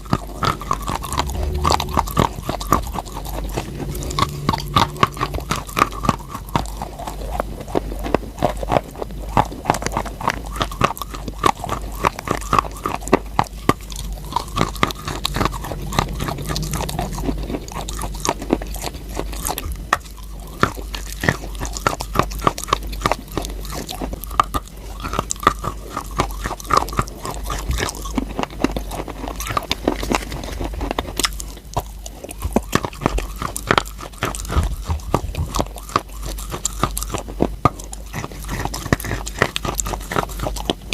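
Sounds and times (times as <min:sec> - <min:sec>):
chewing and crunching chalk: 0:00.0 - 0:40.9.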